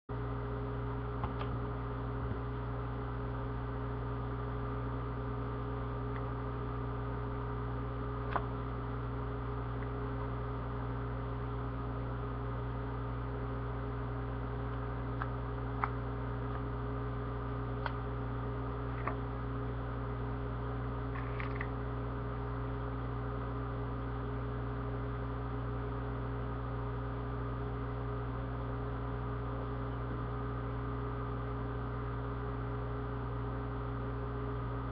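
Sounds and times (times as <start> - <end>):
electrical hum: 0.1 - 34.9.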